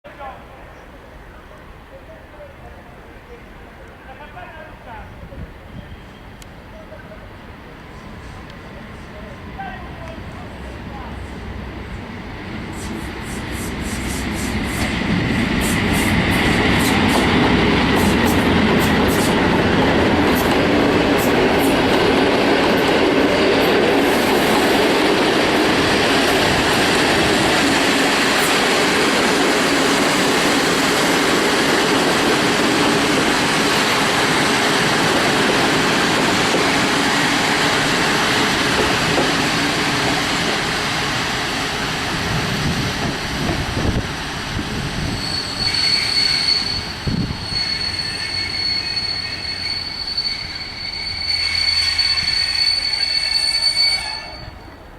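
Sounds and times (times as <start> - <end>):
train carriages rumbling past: 0.3 - 54.9.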